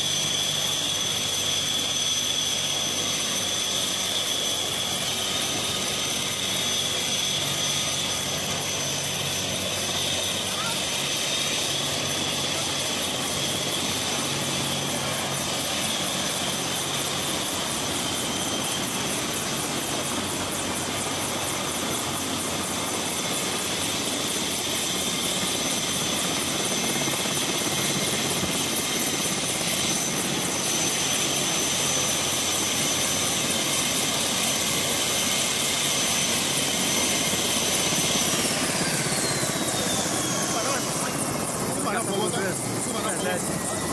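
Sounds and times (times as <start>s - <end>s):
helicopter engine and rotor: 0.0s - 43.9s
high turbine whine: 0.0s - 43.9s.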